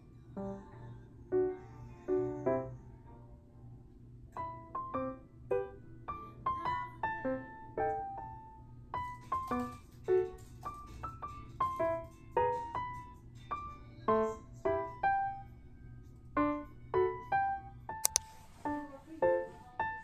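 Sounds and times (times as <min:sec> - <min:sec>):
gentle piano music: 0:00.0 - 0:03.5, 0:04.3 - 0:20.0.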